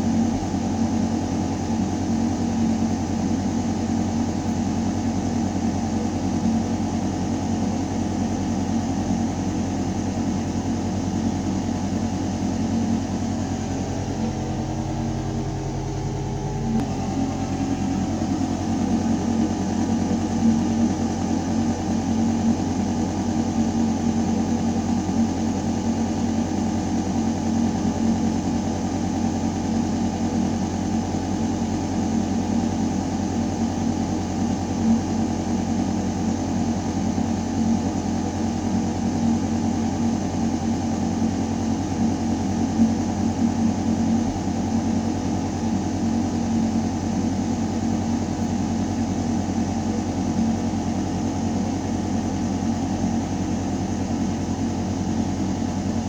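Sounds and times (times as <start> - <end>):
ventilation mechanical hum: 0.0 - 56.0.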